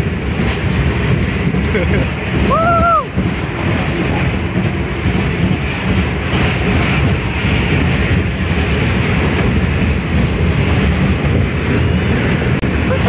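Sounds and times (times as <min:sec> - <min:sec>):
roller coaster rumbling on rails: 0:00.0 - 0:13.0.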